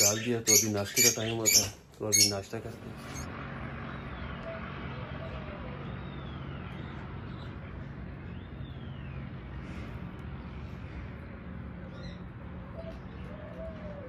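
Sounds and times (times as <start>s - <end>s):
bird calls: 0.0s - 10.0s, 11.8s - 14.0s
low background hum: 0.0s - 14.0s.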